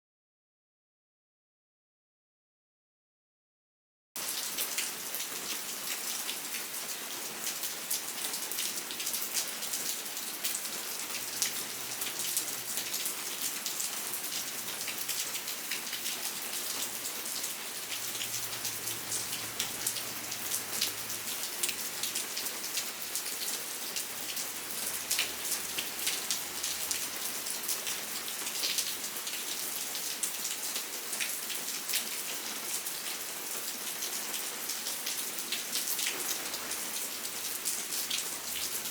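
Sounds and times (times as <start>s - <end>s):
steady rain falling: 4.2s - 38.9s.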